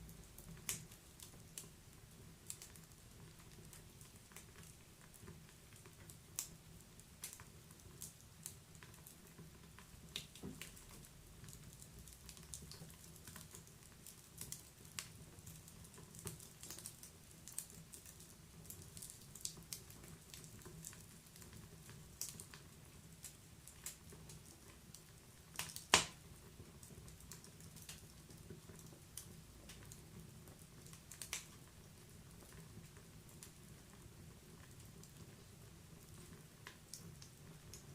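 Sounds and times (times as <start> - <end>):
faint low hiss: 0.0 - 37.9
wood fire crackling: 0.0 - 37.9.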